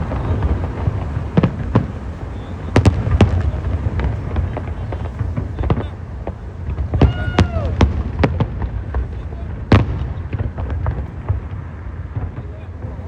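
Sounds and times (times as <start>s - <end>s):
fireworks bursting: 0.0s - 13.0s
steady low rumble: 0.0s - 13.0s.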